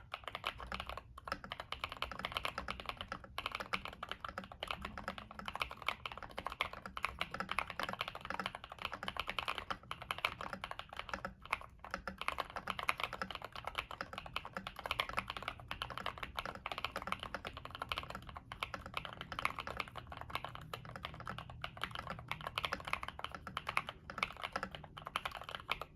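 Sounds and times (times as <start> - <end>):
mechanical keyboard typing: 0.0 - 25.9.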